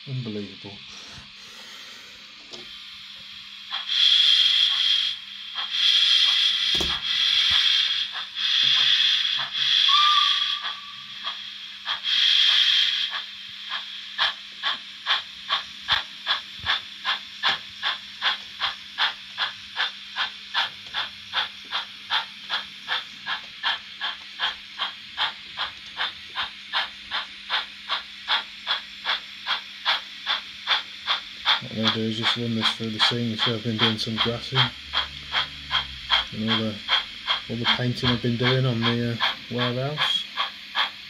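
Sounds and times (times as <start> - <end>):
model locomotive steam hissing: 0.1 - 41.0
steam exhaust chuffs: 0.1 - 41.0.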